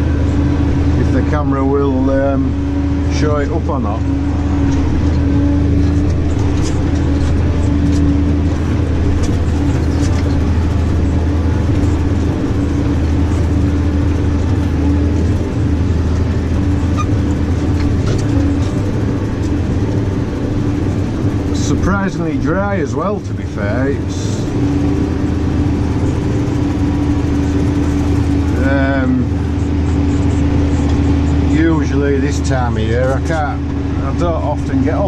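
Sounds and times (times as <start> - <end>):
tractor engine drone: 0.0 - 35.0.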